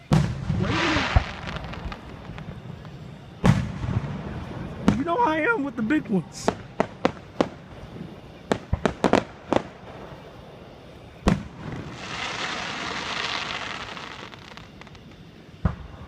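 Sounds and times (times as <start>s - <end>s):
fireworks bangs: 0.0s - 5.6s, 6.3s - 16.0s
fireworks crackling: 0.0s - 16.0s.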